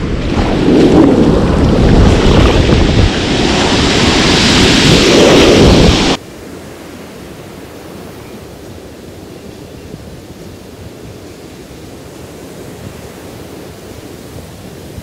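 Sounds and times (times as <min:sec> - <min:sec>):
wind buffeting microphone: 0:00.0 - 0:06.2, 0:08.0 - 0:15.0
surf washing in shallows: 0:00.0 - 0:15.0.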